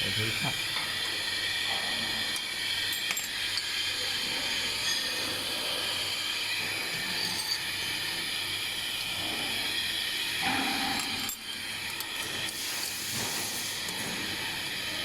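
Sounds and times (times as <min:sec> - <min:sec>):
machinery hissing and humming: 0:00.0 - 0:15.0.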